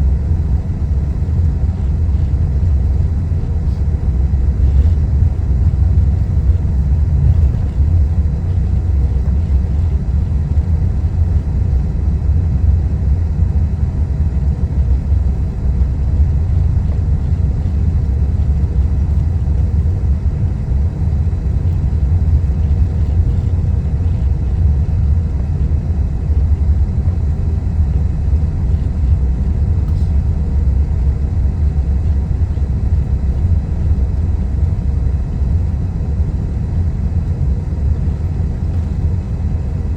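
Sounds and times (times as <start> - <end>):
airliner taxiing rumble: 0.0 - 39.9.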